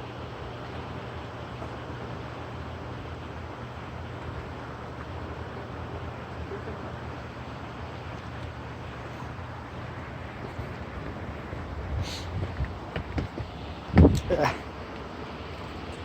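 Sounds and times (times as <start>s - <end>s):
constant hiss: 0.0s - 16.0s
low engine hum: 0.0s - 16.0s.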